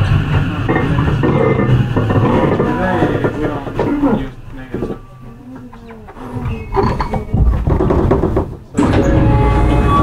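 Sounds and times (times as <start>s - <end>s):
train interior low hum: 0.0s - 10.0s.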